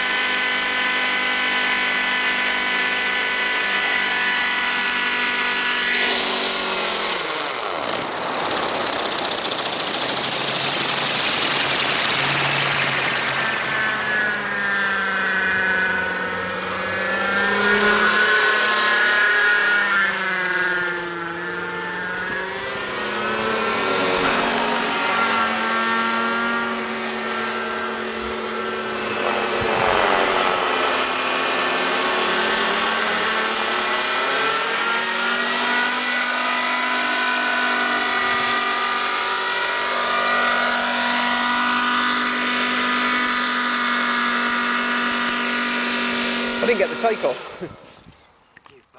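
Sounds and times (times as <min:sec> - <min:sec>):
model helicopter rotor whine: 0:00.0 - 0:48.9.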